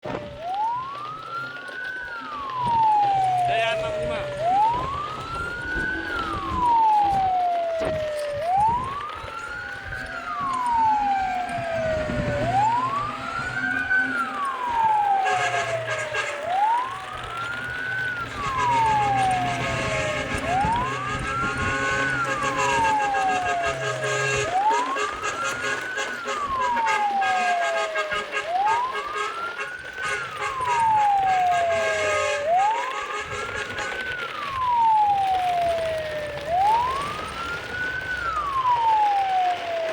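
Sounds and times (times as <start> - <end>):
fainter second siren wail: 0.0 - 39.9
wailing siren: 0.0 - 39.9.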